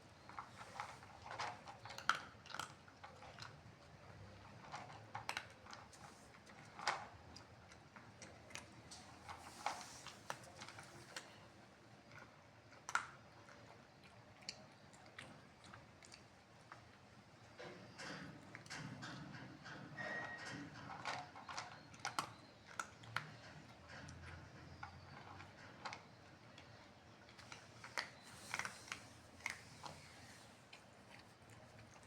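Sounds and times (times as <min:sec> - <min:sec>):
cat chewing food: 0:00.0 - 0:17.6, 0:20.4 - 0:32.0.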